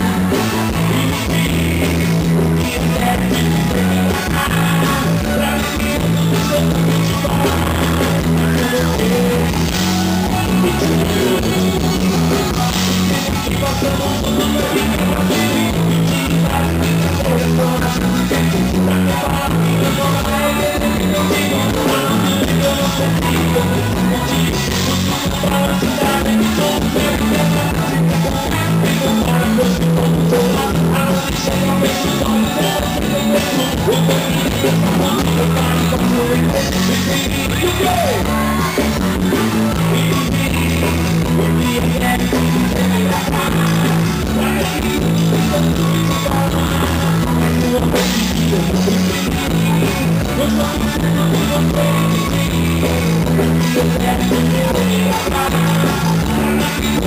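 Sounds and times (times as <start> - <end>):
live band with drums and guitar: 0.0 - 57.0.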